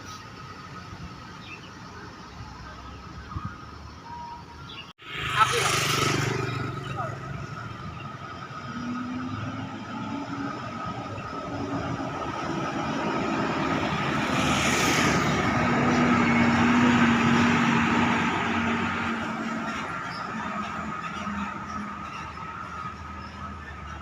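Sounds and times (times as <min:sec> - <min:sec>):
vehicle engine and tyre noise: 0:00.0 - 0:24.0.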